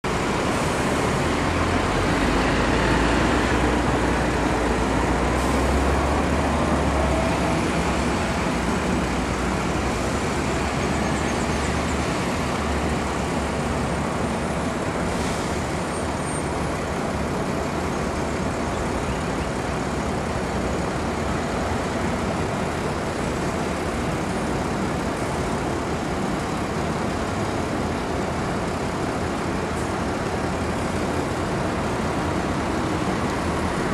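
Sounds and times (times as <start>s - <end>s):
bus diesel engine pulling away: 0.1s - 33.9s.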